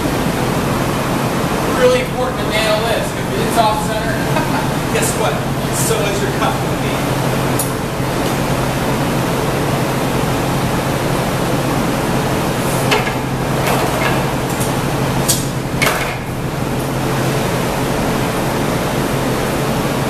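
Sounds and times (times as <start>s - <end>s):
fans and furnace roar: 0.0s - 20.0s.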